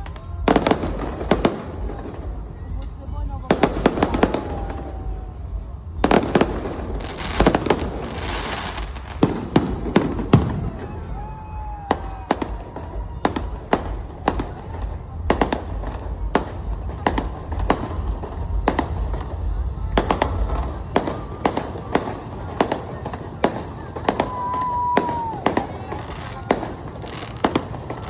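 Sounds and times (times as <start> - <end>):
fireworks bangs: 0.0 - 28.0
fireworks crackling: 0.0 - 28.0.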